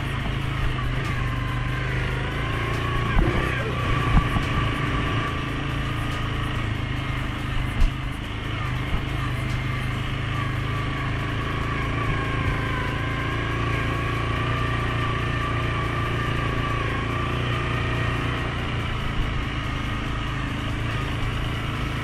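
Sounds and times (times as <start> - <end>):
atv engine running: 0.0 - 22.0
high engine whine: 0.0 - 22.0.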